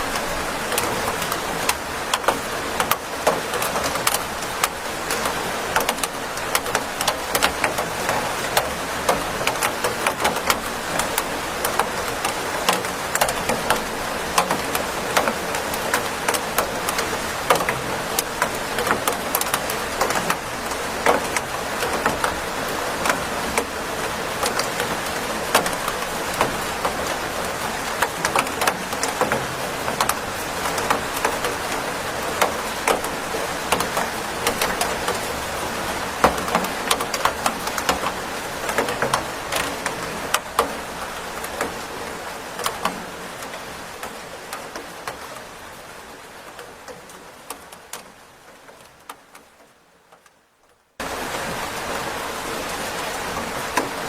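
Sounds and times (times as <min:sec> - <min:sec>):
rain hissing: 0:00.0 - 0:54.0.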